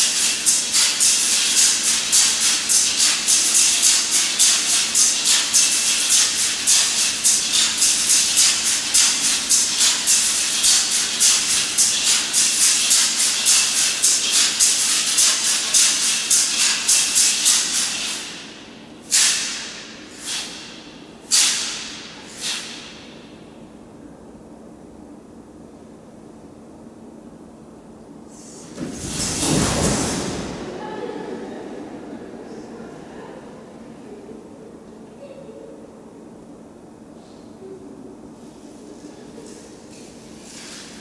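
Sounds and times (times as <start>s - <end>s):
hissing shaker-like strokes: 0.0s - 23.4s, 28.3s - 35.1s, 37.0s - 41.0s.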